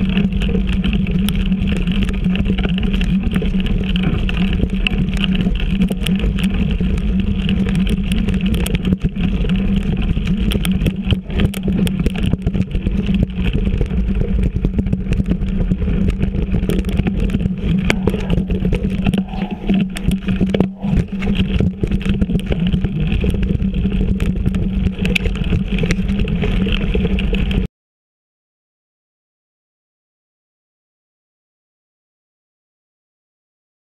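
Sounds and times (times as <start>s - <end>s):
bike rolling over dirt trail: 0.0s - 27.7s.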